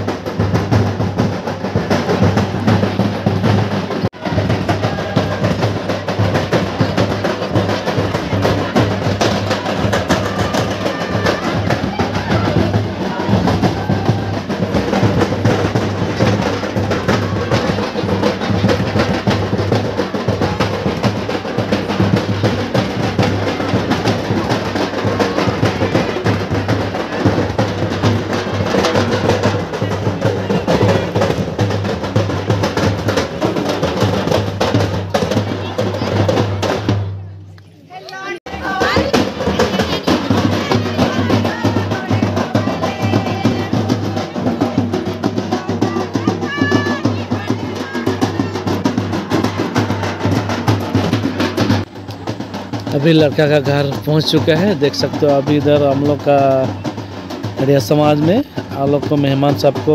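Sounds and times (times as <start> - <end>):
fast rolling drum beat: 0.0 - 37.2, 38.2 - 59.9.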